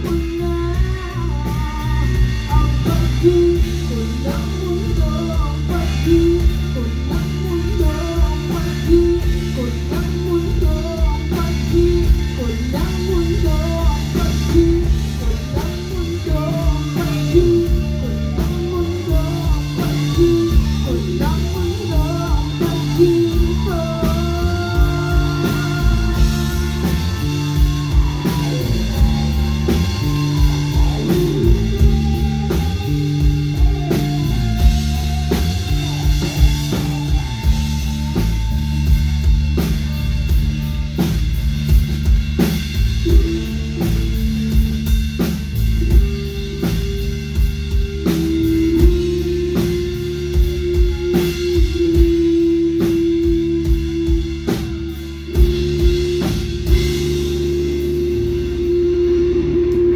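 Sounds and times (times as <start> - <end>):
drum kit beat: 0.0 - 59.9
rock band playing: 0.0 - 59.9.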